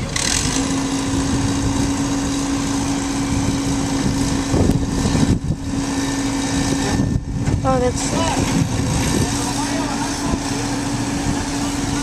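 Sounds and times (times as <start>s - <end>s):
heavy diesel machinery humming: 0.0s - 12.0s.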